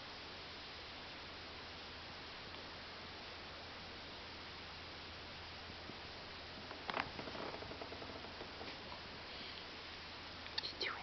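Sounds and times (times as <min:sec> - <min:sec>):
faint hum: 0:00.0 - 0:11.0
low hiss of room tone: 0:00.0 - 0:11.0.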